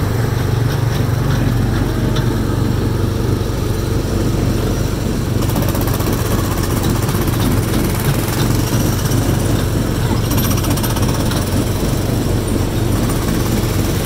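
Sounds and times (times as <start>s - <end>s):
small gasoline engine humming: 0.0s - 14.0s
fast rattle: 0.4s - 14.0s.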